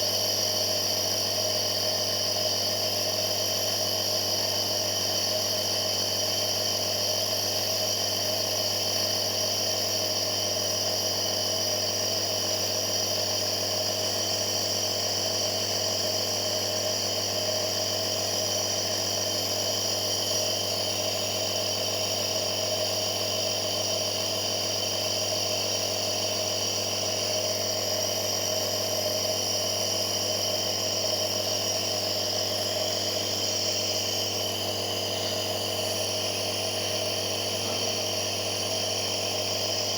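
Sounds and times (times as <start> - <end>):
nebulizer compressor whirring hum: 0.0 - 39.9.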